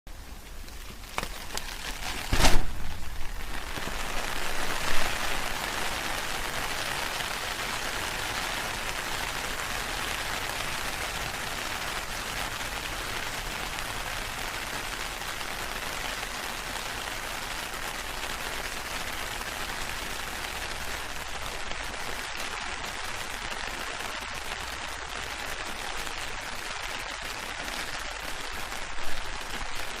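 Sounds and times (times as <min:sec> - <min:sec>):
rain on an umbrella: 0:00.1 - 0:30.0.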